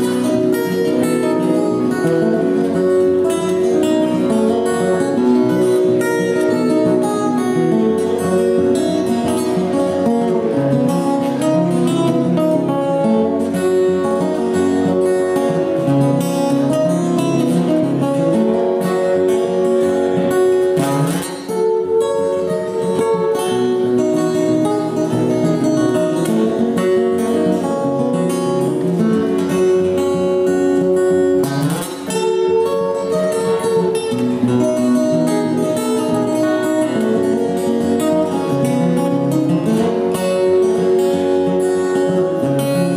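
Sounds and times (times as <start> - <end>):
acoustic guitars playing: 0.0 - 42.9.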